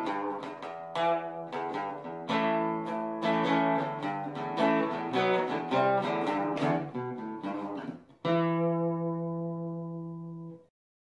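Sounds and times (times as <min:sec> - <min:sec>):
strummed acoustic guitar: 0:00.0 - 0:10.6.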